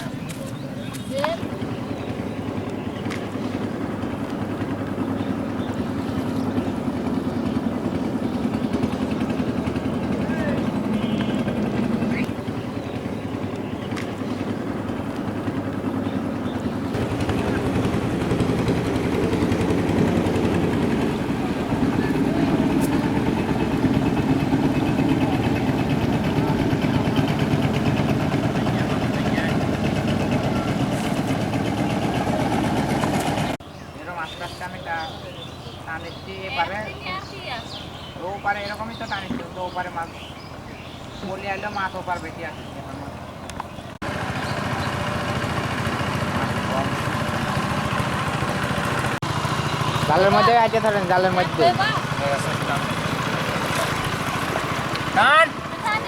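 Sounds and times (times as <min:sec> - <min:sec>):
boat engine fluttering hum: 0:00.0 - 0:56.0.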